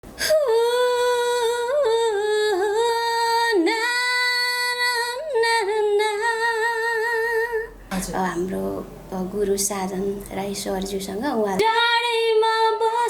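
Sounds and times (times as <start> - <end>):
woman singing unaccompanied: 0.2 - 13.0.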